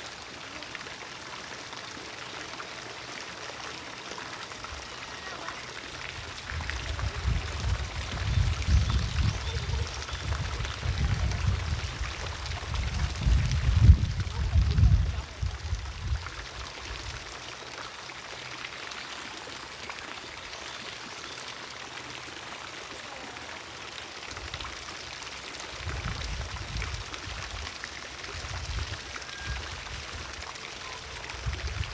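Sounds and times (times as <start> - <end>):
distant fountain splashing: 0.0 - 31.9.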